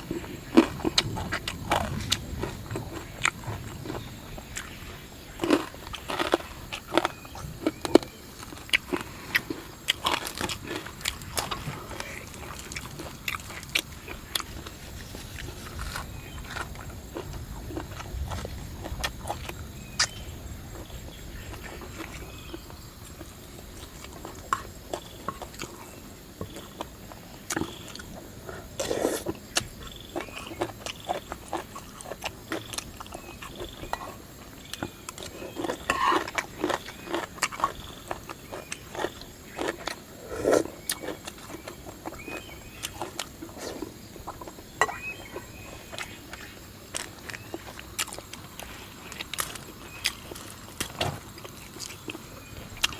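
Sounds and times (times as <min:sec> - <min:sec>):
person chewing and crunching food: 0:00.0 - 0:52.9.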